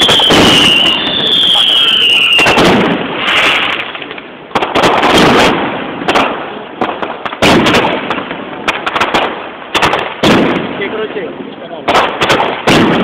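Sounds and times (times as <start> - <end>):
firework shells bursting: 0.0 - 11.1, 11.8 - 13.0.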